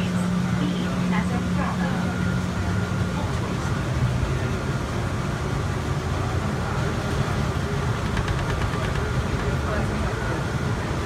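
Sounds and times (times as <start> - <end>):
train running in tunnel: 0.0 - 11.0.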